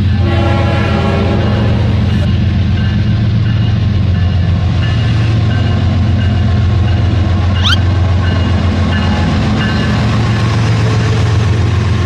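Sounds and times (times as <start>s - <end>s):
train running hum: 0.0s - 12.0s.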